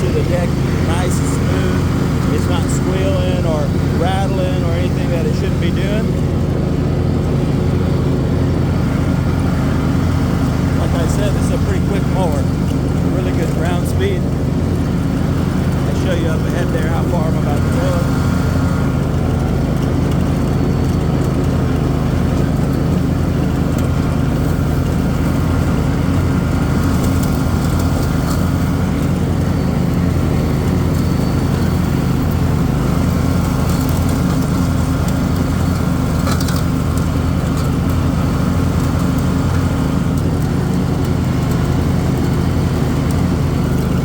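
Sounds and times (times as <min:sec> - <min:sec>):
lawn mower engine running: 0:00.0 - 0:44.0.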